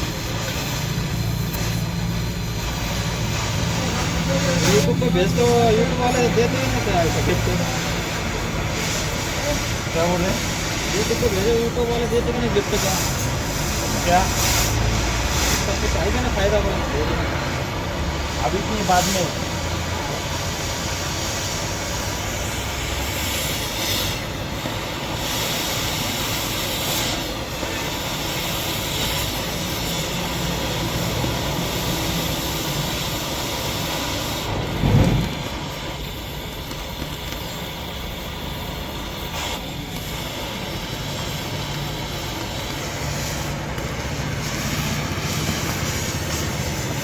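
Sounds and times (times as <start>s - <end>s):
electric arc welding on steel: 0.0s - 47.0s.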